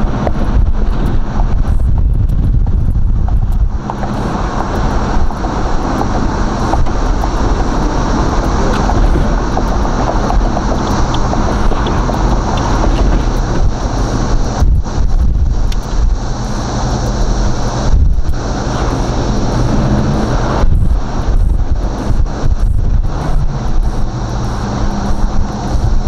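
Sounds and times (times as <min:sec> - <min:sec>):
car engine cruising: 0:00.0 - 0:26.0
wind and road noise: 0:00.0 - 0:26.0.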